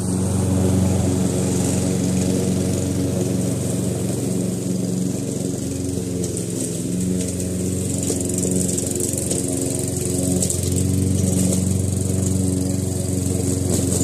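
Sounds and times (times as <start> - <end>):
lawnmower engine running: 0.0 - 14.0.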